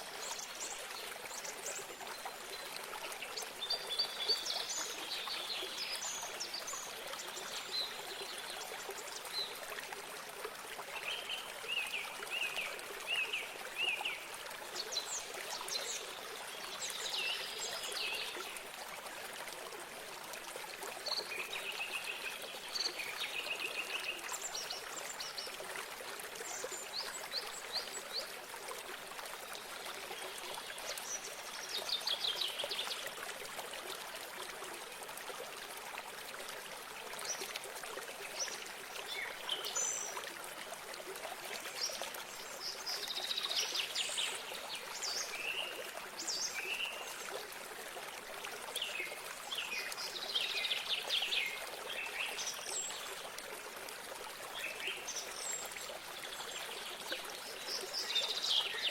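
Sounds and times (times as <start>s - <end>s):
small stream trickling: 0.0s - 58.9s.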